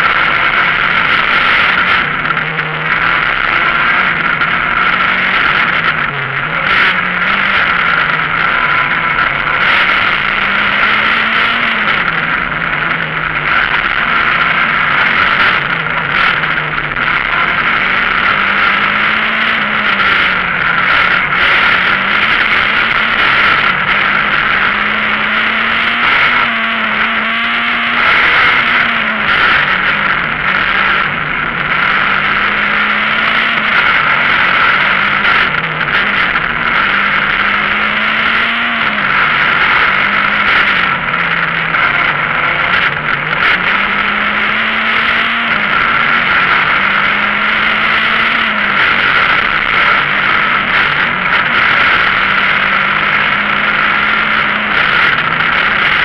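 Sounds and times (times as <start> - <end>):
rally car engine revving: 0.0 - 56.0
road and cabin noise: 0.0 - 56.0.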